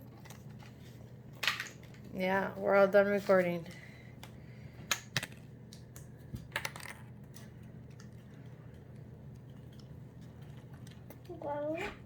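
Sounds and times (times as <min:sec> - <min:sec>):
crackers clicking and clattering: 0:00.0 - 0:02.2, 0:03.7 - 0:11.9.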